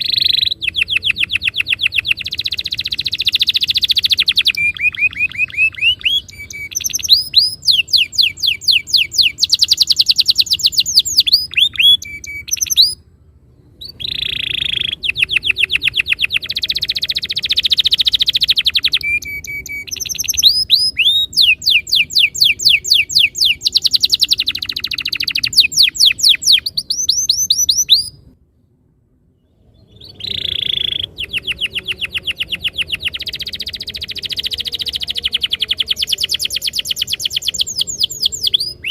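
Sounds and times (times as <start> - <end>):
canary singing trills: 0.0 - 28.4, 29.4 - 38.9.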